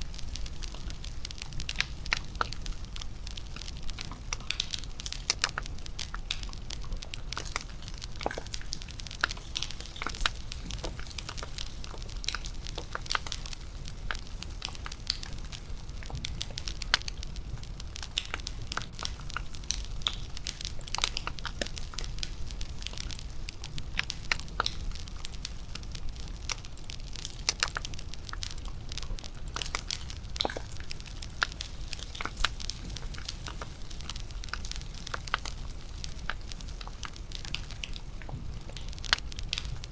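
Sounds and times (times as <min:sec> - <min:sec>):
bonfire crackling: 0:00.0 - 0:39.9
low steady fire rumble: 0:00.0 - 0:39.9.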